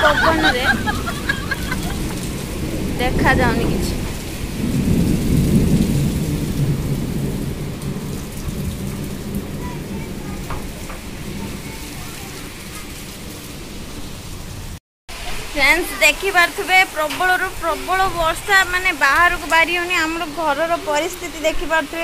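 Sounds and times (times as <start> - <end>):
gusting wind: 0.0 - 22.0
heavy rain pouring: 0.0 - 22.0.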